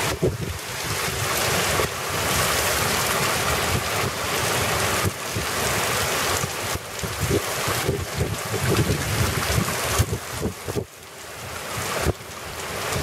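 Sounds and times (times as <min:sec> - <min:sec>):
wind buffeting microphone: 0:00.0 - 0:10.9
heavy rain on pavement: 0:00.0 - 0:13.0.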